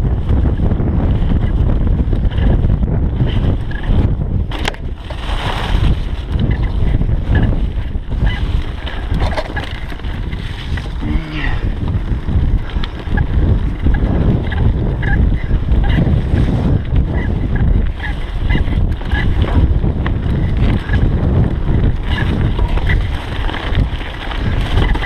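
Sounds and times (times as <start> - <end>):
bike rattling: 0.0 - 25.0
wind buffeting microphone: 0.0 - 25.0
tyres rumbling on dirt and leaves: 0.1 - 25.0.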